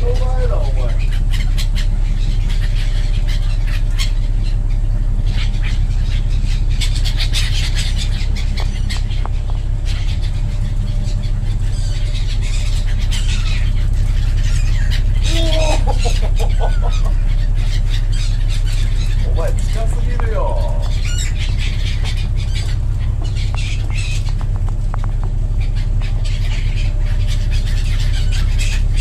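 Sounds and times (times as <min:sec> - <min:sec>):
gulls calling: 0:00.0 - 0:29.0
low engine drone: 0:00.0 - 0:29.0.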